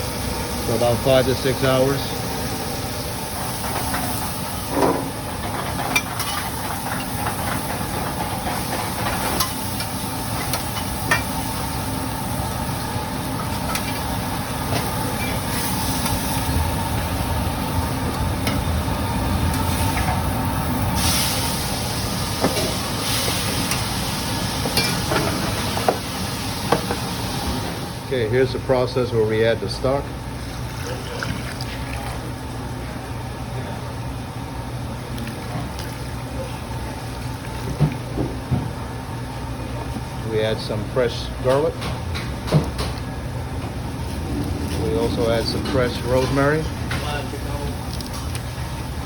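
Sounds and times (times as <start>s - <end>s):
kitchen exhaust fan: 0.0s - 49.0s.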